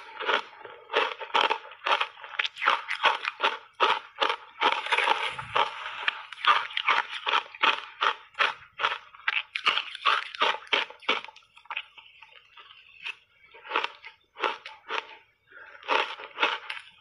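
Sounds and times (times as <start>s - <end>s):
shaved ice crunching being chewed: 0.0s - 17.0s.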